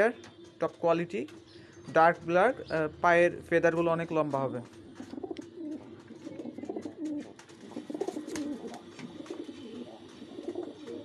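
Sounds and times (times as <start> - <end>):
pigeons cooing: 0.0 - 3.1, 4.7 - 11.0.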